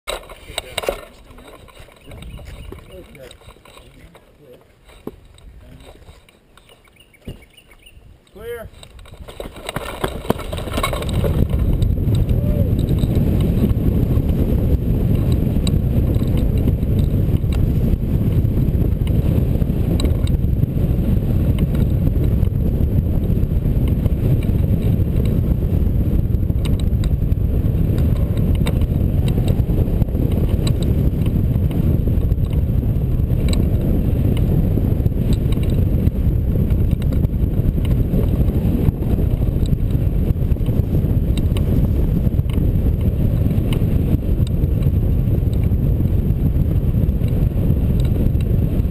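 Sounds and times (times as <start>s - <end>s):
wind buffeting microphone: 0.1s - 48.9s.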